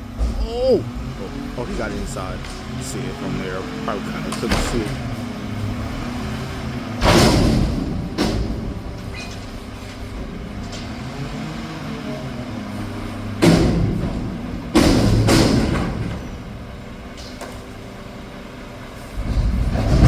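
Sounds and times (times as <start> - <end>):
loud rushes of passing traffic: 0.0 - 20.0
low engine hum: 0.0 - 20.0.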